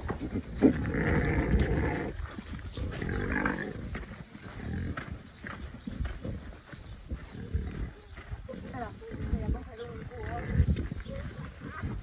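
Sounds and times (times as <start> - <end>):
pigs grunting: 0.0 - 5.2, 7.1 - 12.0.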